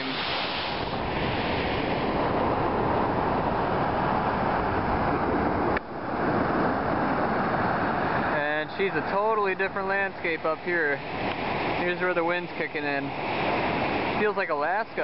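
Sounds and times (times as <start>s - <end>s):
white water rushing over rocks: 0.0s - 15.0s
wind noise on microphone: 0.0s - 15.0s.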